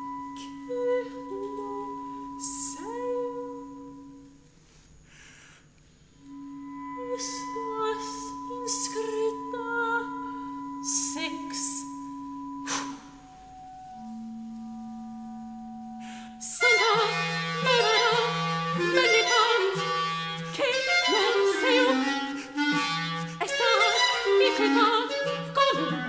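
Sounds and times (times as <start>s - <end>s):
clarinet playing: 0.0s - 5.3s, 6.1s - 26.0s
lower repeated tone: 0.0s - 25.9s.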